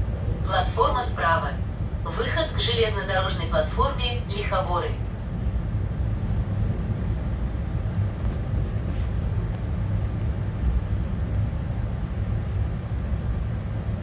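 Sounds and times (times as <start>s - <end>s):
train wheels rumbling inside carriage: 0.0s - 14.0s.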